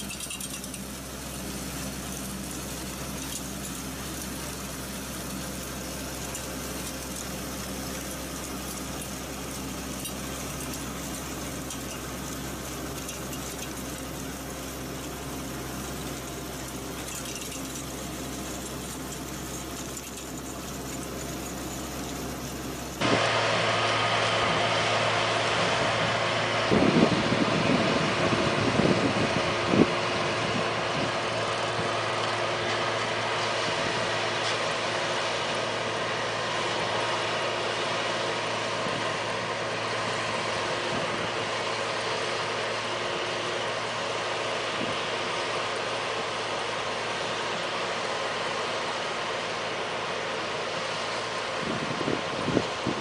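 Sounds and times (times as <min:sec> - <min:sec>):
small ditcher engine running: 0:00.0 - 0:53.0
tractor engine pulling tiller: 0:00.0 - 0:53.0.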